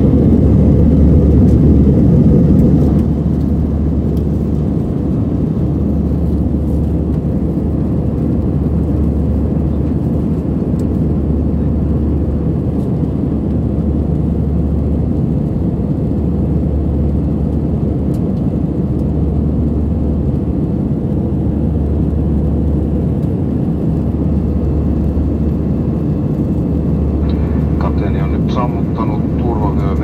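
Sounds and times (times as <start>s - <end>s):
jet engine cabin drone: 0.0s - 30.0s.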